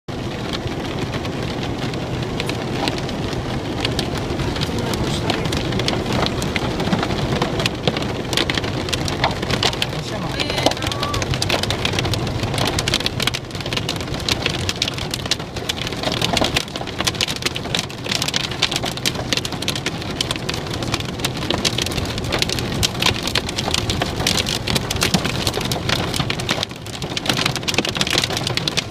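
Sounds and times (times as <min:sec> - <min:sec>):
hailstones falling hard: 0:00.2 - 0:28.9.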